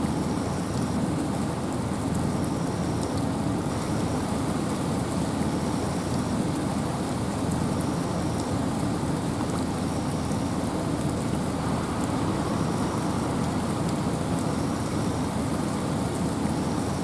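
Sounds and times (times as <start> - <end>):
steady rain: 0.0 - 17.0
wind in a forest: 0.0 - 17.0.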